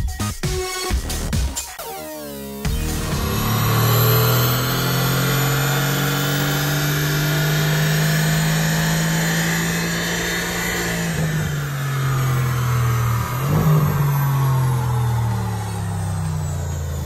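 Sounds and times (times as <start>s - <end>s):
car engine: 2.2s - 17.0s
tyre whining on rollers: 2.8s - 17.0s.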